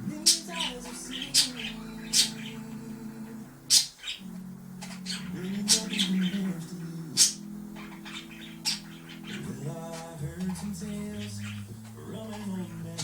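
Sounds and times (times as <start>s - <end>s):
budgies chirping: 0.0s - 13.0s
low steady background tone: 0.0s - 13.0s.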